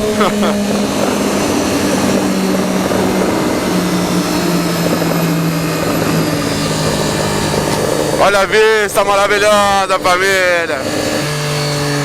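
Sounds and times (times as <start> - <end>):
heavy wind noise: 0.0 - 12.0
motorcycle engine running steadily: 0.0 - 12.0.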